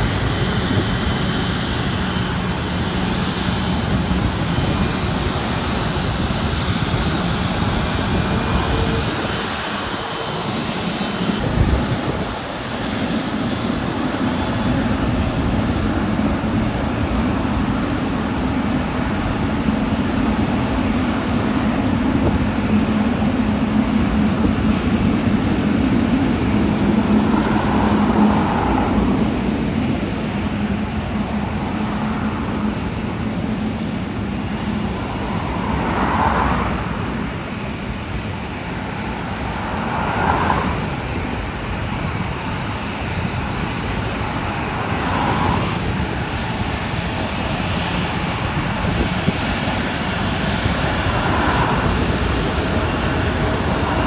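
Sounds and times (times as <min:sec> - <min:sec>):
jet engine drone: 0:00.0 - 0:54.0
passing traffic swells: 0:00.0 - 0:54.0.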